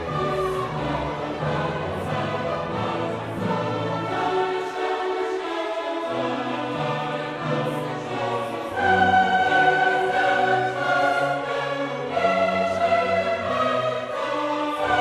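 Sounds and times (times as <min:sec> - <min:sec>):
choir singing held notes: 0:00.0 - 0:15.0
orchestra: 0:00.0 - 0:15.0.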